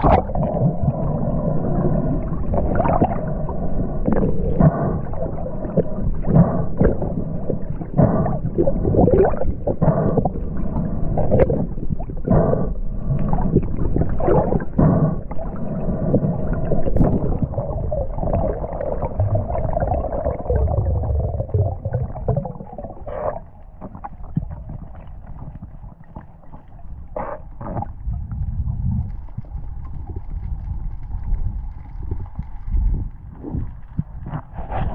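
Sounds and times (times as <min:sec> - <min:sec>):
muffled underwater gurgling: 0:00.0 - 0:34.9.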